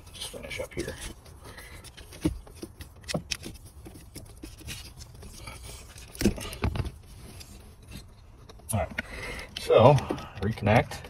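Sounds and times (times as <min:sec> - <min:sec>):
hands scraping plastic connectors: 0:00.0 - 0:11.0.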